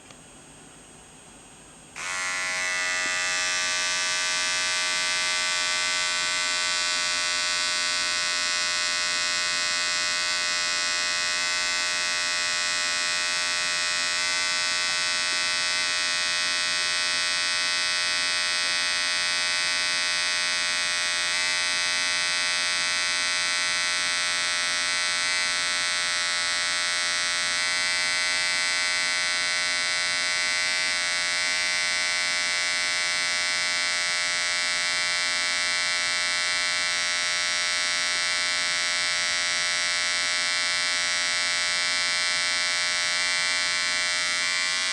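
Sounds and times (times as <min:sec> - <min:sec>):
electric hair trimmer buzzing: 0:02.0 - 0:44.9.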